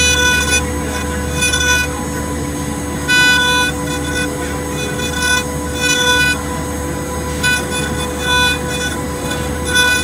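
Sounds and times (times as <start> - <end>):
machine spindle whine: 0.0 - 10.0
ringing metal cutting tone: 0.0 - 10.0.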